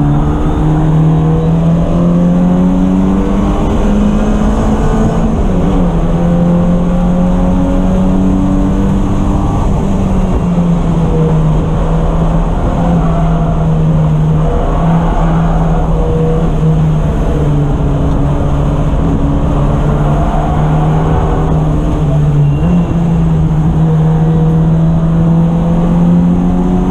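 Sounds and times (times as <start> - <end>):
race car engine running hard: 0.0 - 26.9
road and wind noise: 0.0 - 26.9.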